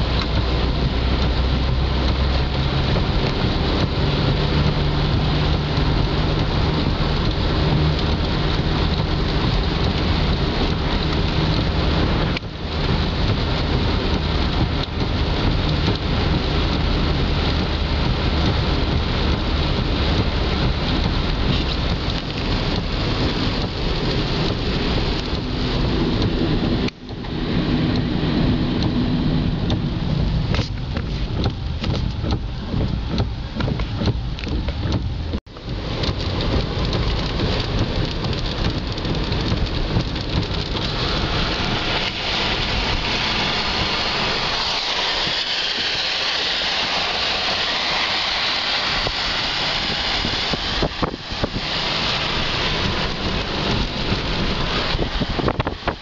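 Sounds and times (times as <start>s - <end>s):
tyre hiss on wet road: 0.0s - 34.5s, 35.5s - 56.0s
rain on car windshield and roof: 0.0s - 56.0s.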